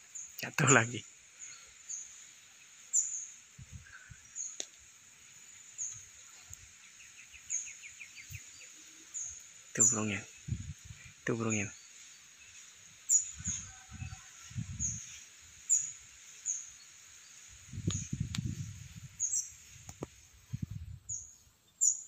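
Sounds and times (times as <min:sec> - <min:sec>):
background hiss: 0:00.0 - 0:22.0
small bird chirping: 0:00.0 - 0:22.0.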